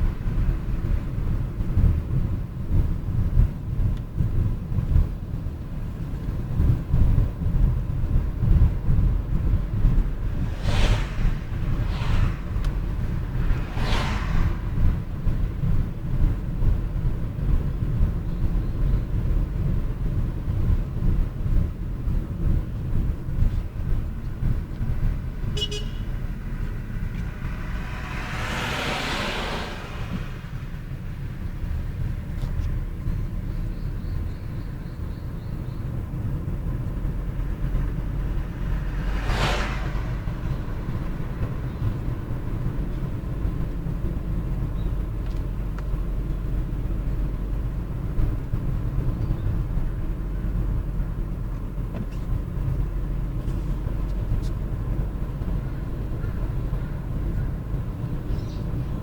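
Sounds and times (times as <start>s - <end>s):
road rumble: 0.0s - 59.0s
vehicles passing by: 0.0s - 59.0s.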